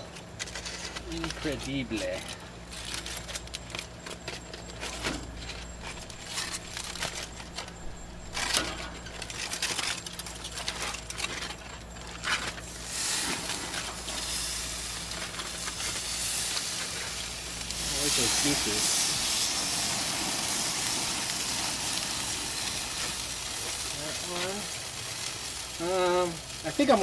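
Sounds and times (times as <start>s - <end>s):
aluminium foil crinkling: 0.0s - 27.0s
juices sizzling on grill: 0.0s - 27.0s.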